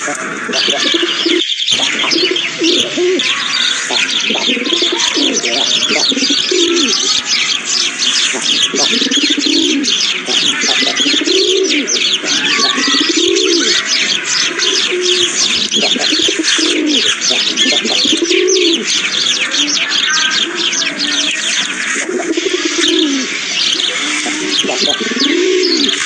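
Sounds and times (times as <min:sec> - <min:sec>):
low rising and falling bird call: 0:00.0 - 0:26.0
small birds chirping: 0:00.0 - 0:26.0.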